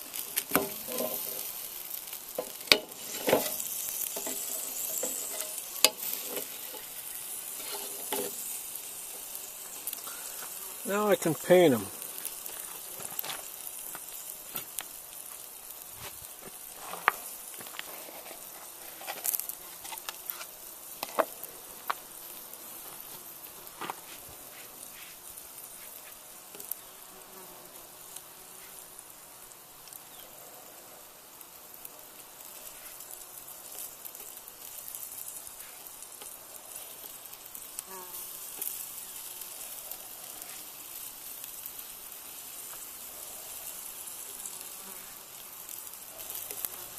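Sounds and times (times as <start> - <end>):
meat sizzling on a grill: 0.0 - 46.9.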